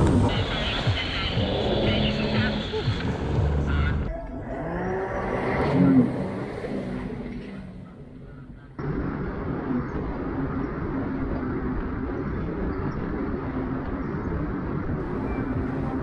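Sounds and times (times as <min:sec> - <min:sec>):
jet ski engine droning: 0:00.0 - 0:16.0
wind: 0:00.0 - 0:16.0.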